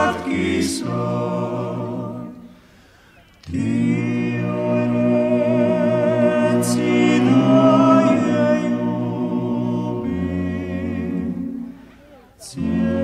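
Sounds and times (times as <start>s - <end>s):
a cappella singing: 0.0s - 2.6s, 3.4s - 13.0s.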